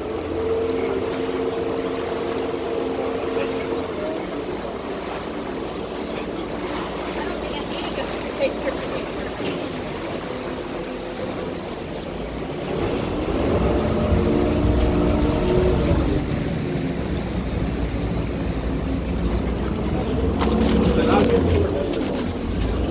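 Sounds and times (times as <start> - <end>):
motorboat engine running: 0.0 - 22.9
water rushing: 0.0 - 22.9
wind: 0.0 - 22.9.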